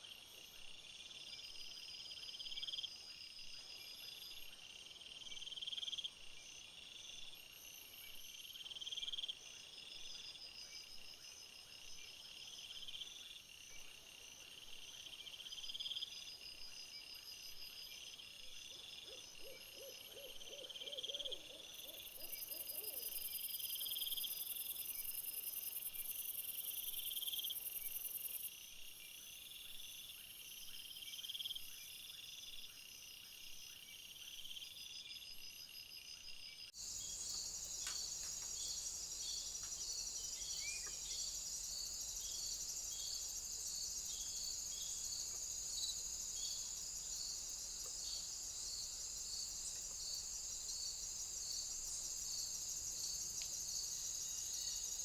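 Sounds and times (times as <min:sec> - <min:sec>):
crickets and insects chirping: 0:00.0 - 0:55.0.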